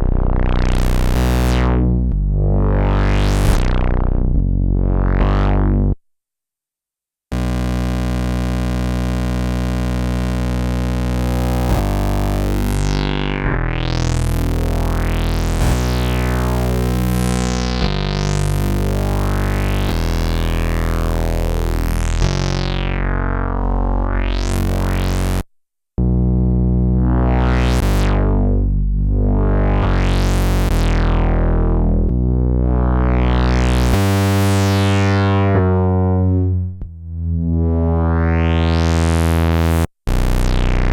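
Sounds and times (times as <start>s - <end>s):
synthesizer chords with filter sweeps: 0.0s - 6.0s, 7.3s - 25.4s, 26.0s - 40.9s.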